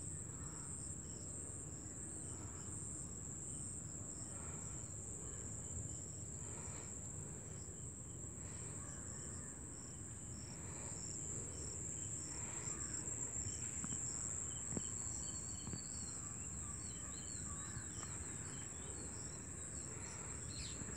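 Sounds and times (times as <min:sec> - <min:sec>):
insects trilling: 0:03.5 - 0:20.9.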